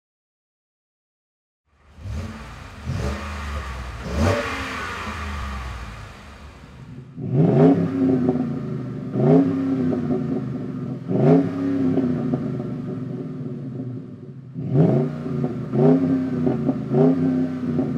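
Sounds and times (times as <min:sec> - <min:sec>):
car engine idling and revving: 0:01.7 - 0:17.9.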